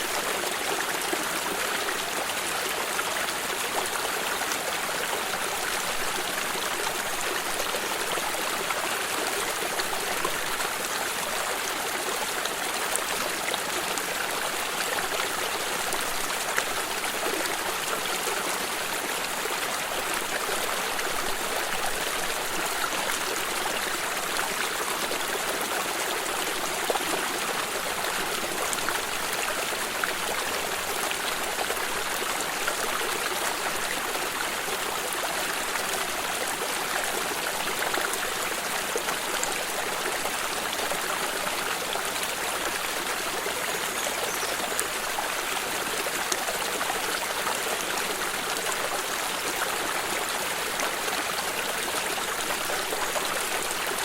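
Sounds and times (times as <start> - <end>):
water stream flowing: 0.0 - 54.0
water trickles and splashes: 0.0 - 54.0.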